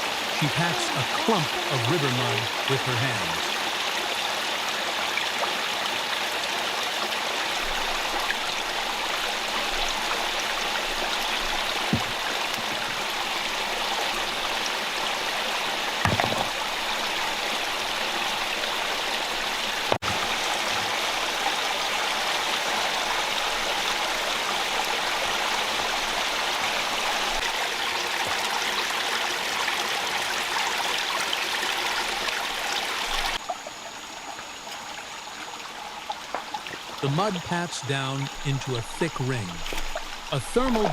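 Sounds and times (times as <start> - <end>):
water rushing over stones: 0.0 - 33.8, 36.2 - 40.9.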